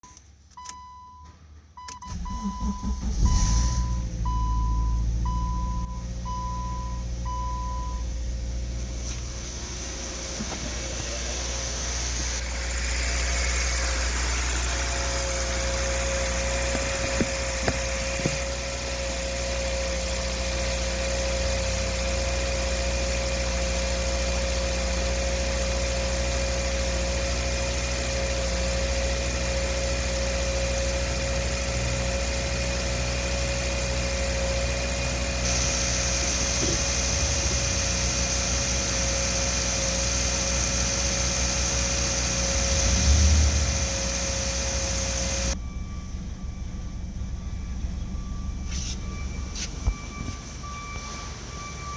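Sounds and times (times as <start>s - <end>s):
car engine idling: 1.5s - 51.9s.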